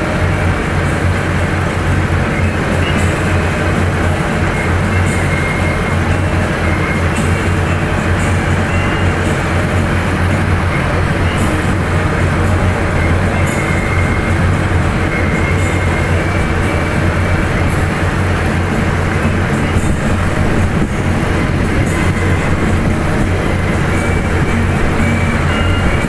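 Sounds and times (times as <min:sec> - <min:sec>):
military trucks engines droning: 0:00.0 - 0:26.0.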